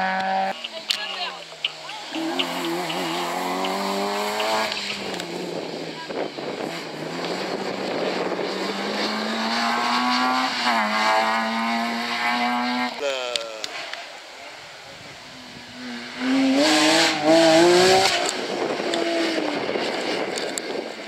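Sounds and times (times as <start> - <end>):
engine crackles: 0.0 - 21.0
rally car engine revving: 0.0 - 21.0.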